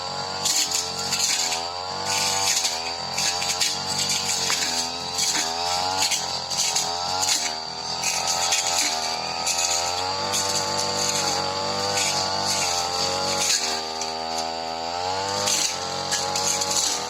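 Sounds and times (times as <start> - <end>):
brush cutter engine: 0.0 - 17.0.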